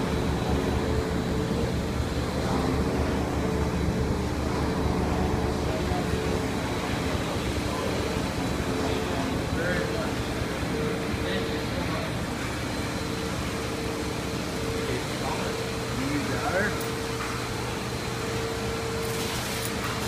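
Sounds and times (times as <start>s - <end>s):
washing machine spinning: 0.0s - 20.0s.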